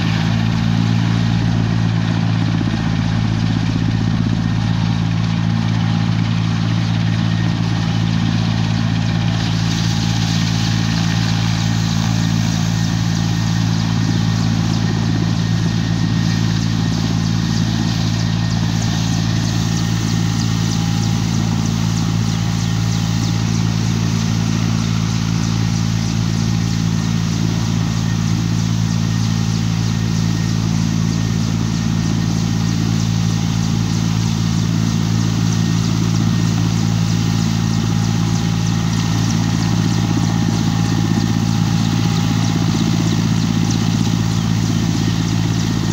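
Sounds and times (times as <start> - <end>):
helicopter engine and rotor hum: 0.0 - 45.9.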